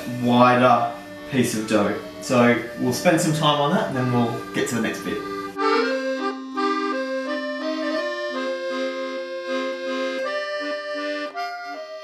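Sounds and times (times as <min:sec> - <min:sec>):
accordion music: 0:00.0 - 0:12.0.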